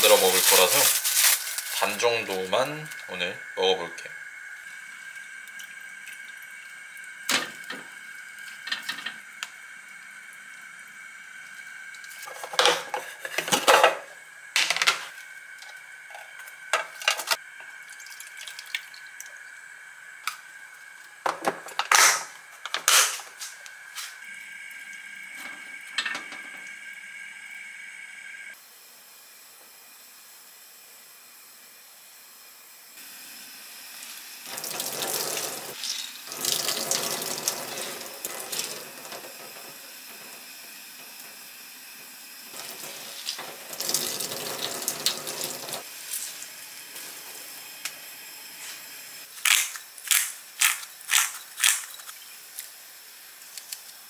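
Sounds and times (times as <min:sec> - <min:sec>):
kitchen appliance humming: 0:00.0 - 0:54.0.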